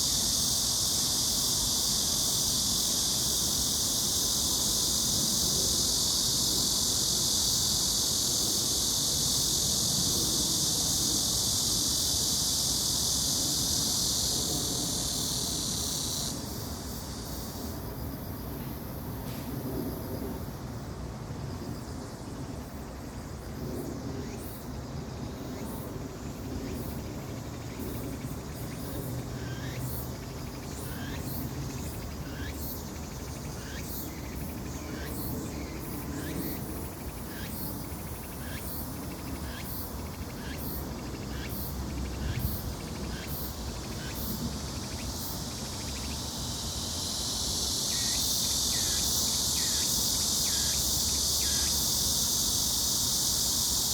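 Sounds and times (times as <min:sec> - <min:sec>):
dense high insect buzz: 0:00.0 - 0:53.9
insect chirps: 0:00.0 - 0:53.9.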